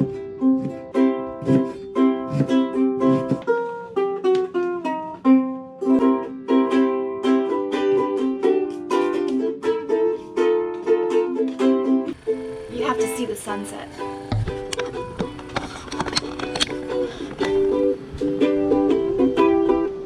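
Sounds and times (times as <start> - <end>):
plucked ukulele tune: 0.0 - 20.0.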